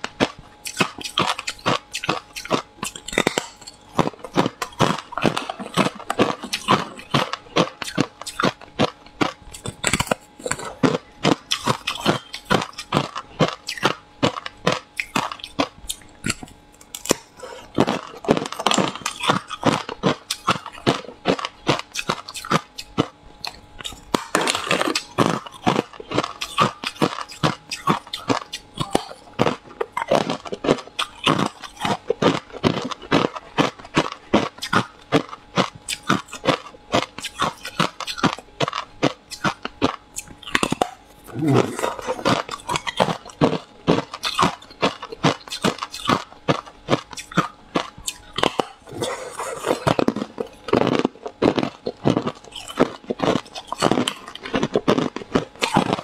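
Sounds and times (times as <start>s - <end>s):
ice crunching while chewed: 0.0s - 56.0s.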